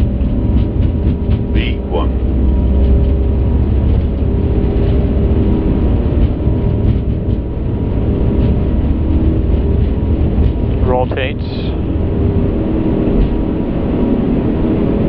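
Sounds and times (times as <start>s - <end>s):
faint steady whine: 0.0s - 15.0s
jet engine rumble: 0.0s - 15.0s.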